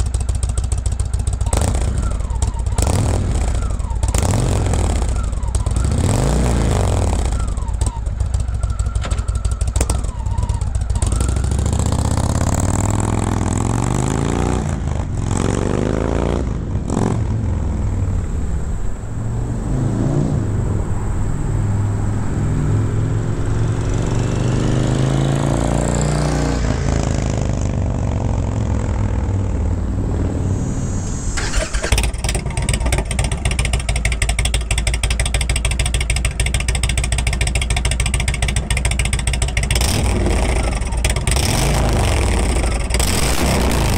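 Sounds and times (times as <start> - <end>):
motorcycle engine revving: 0.0 - 18.6, 19.2 - 43.9.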